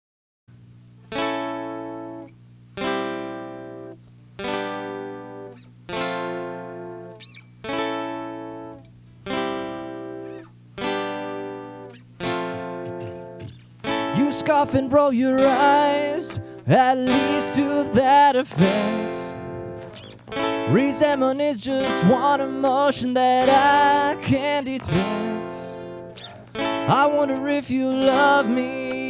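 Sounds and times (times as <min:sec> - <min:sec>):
acoustic guitar strummed chords: 0:01.0 - 0:29.0.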